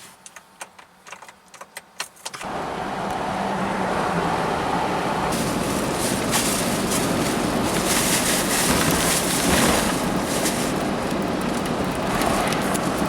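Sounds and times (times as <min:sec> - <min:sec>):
car road and wind noise: 0:02.3 - 0:13.0.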